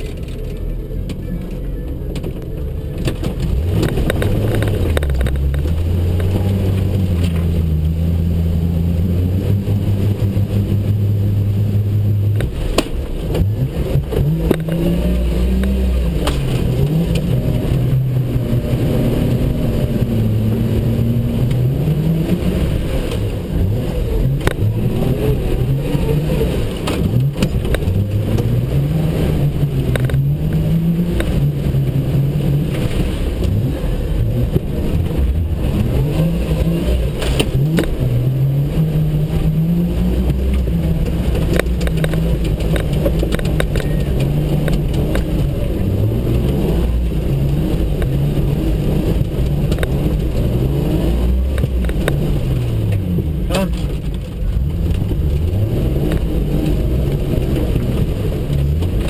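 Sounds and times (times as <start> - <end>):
engine revving in mud: 0.0 - 59.0.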